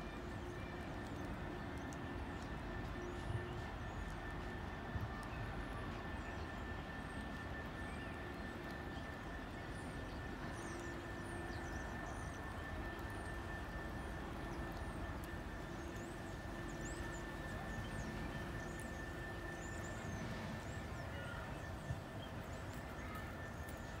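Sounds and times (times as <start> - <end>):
distant city traffic: 0.0 - 24.0.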